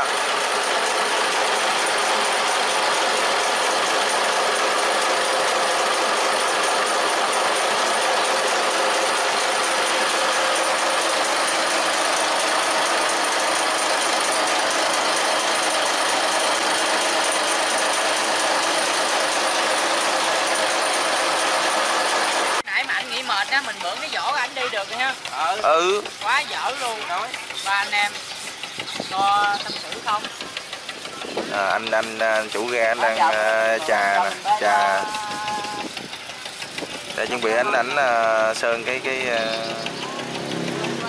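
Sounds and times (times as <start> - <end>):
marine diesel engine running: 0.0 - 41.0.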